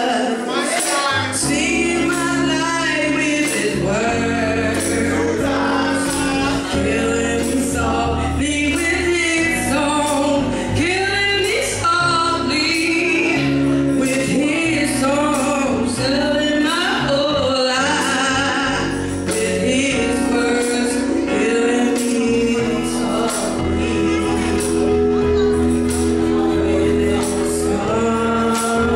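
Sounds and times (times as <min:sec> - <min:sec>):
woman singing into a microphone: 0:00.0 - 0:00.6, 0:01.3 - 0:28.9
live band playing: 0:00.0 - 0:28.9.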